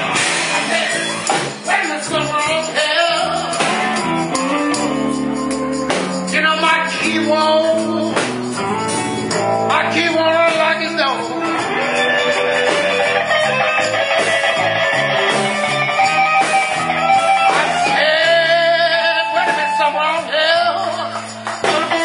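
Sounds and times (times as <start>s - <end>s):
blues band playing: 0.0s - 22.0s
electric guitar lead: 0.0s - 22.0s
person singing: 0.6s - 16.4s, 17.1s - 22.0s.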